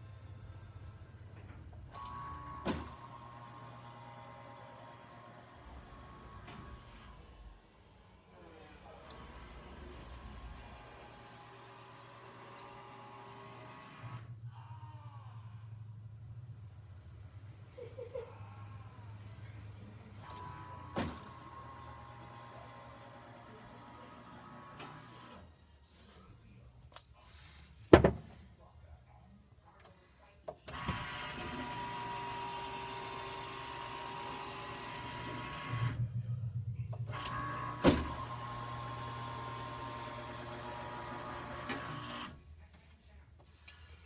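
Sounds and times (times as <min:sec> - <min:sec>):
vent motor running: 0:00.0 - 0:25.4, 0:30.7 - 0:42.4.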